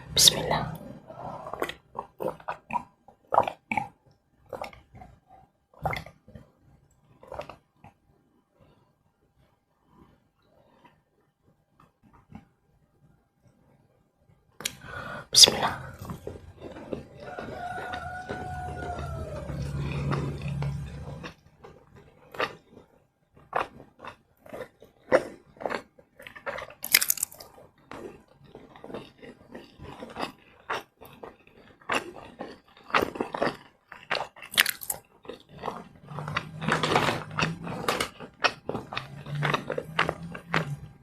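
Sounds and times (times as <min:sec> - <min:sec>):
person crunching and chewing: 0:00.0 - 0:08.0, 0:14.6 - 0:41.0.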